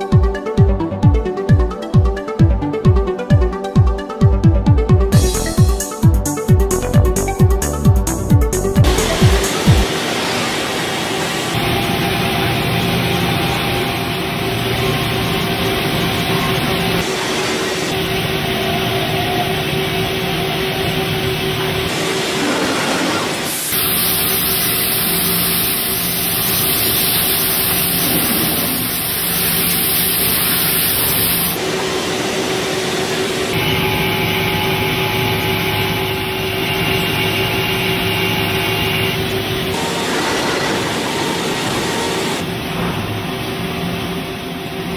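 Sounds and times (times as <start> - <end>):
spindle hum: 8.4 - 44.9
machine cutting metal: 8.8 - 44.9.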